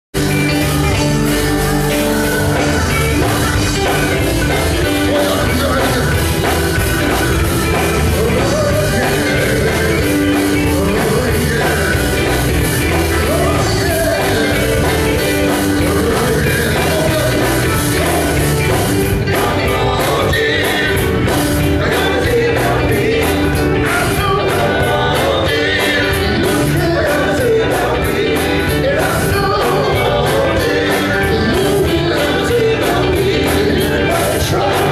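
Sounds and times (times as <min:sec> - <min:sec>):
drums: 0:00.1 - 0:34.9
electric guitar: 0:00.2 - 0:34.9
male vocal group singing gospel: 0:00.3 - 0:34.9.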